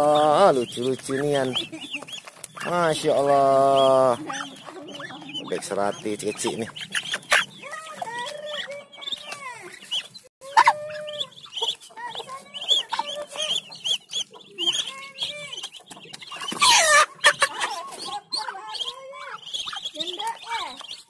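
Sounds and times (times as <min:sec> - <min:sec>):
ducklings peeping: 0:00.0 - 0:21.0.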